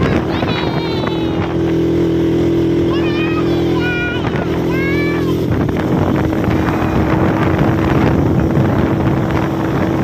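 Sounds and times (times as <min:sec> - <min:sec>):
motorcycle engine running: 0:00.0 - 0:10.0
wind buffeting microphone: 0:00.0 - 0:10.0.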